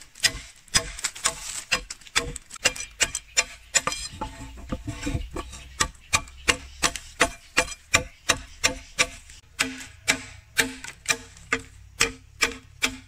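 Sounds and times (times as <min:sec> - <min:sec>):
billhook chopping bamboo: 0:00.0 - 0:13.0.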